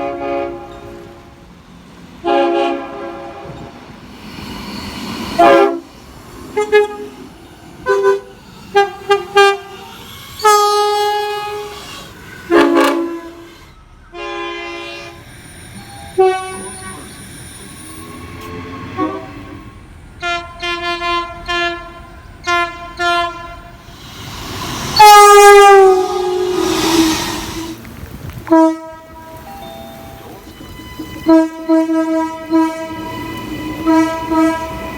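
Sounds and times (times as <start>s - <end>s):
train air horn blasts: 0.0s - 1.4s, 2.2s - 3.8s, 5.3s - 15.2s, 16.2s - 17.0s, 18.4s - 27.8s, 28.5s - 29.4s, 30.6s - 34.9s.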